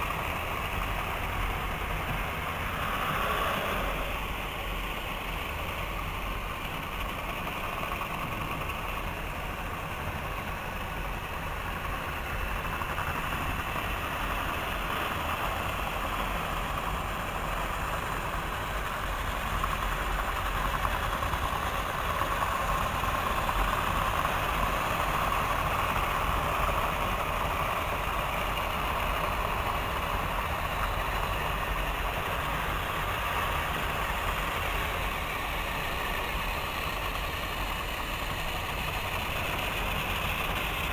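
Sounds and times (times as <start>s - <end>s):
toy trains whirring rattle: 0.0s - 40.9s.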